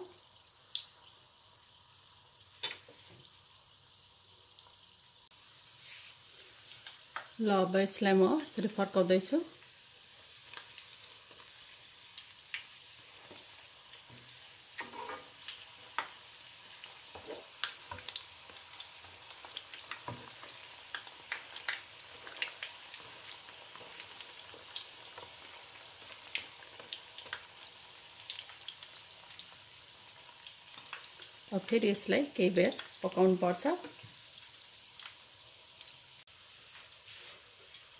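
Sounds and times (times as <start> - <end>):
meatballs sizzling in oil: 0.0 - 37.9.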